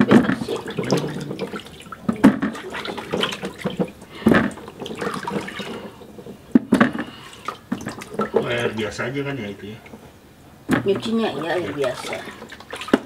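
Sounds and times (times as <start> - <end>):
water sloshing in a bucket: 0.0 - 13.0.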